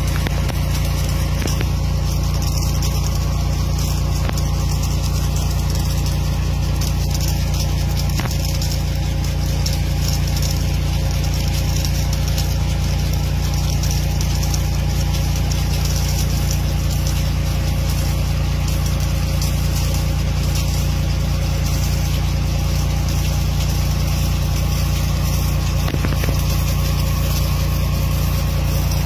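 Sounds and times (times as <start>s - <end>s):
engine droning: 0.0s - 29.0s
sprinklers hissing: 0.0s - 29.0s.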